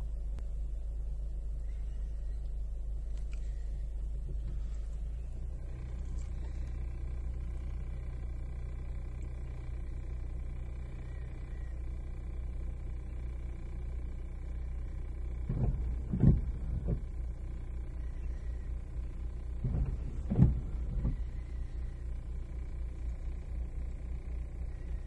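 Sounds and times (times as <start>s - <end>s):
car idling: 0.0s - 25.0s
faint high whine: 0.0s - 25.0s.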